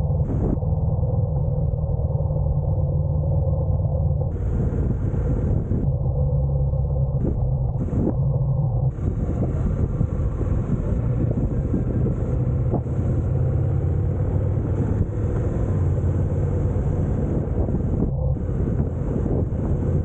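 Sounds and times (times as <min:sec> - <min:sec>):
motorcycle engine running: 0:00.0 - 0:20.0
road noise: 0:00.0 - 0:20.0
wind noise: 0:00.0 - 0:20.0.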